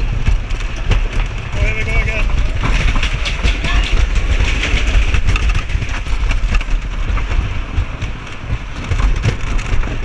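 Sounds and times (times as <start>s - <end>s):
roller coaster wheels rumbling: 0.0s - 10.0s
track clicks and rattles: 0.0s - 10.0s
wind noise on microphone: 0.0s - 10.0s.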